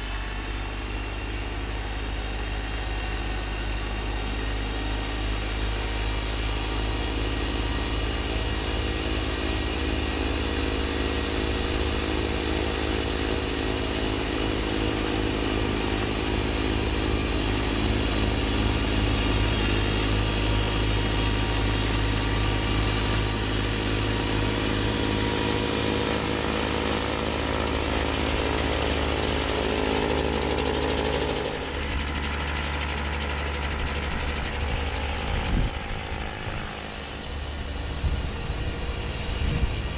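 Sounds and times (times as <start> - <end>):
snowblower churning snow: 0.0 - 39.9
tractor diesel engine running: 0.0 - 39.9.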